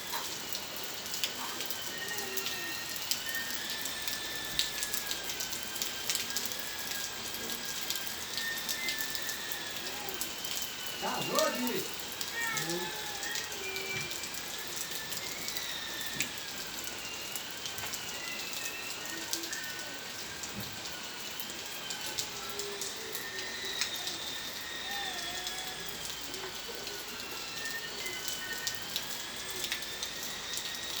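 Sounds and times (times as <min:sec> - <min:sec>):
rain drops hitting hard surface: 0:00.0 - 0:31.0.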